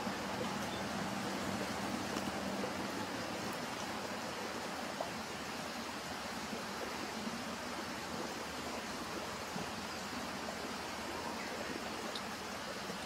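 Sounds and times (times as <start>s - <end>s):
outdoor ambient hiss: 0.0s - 13.0s.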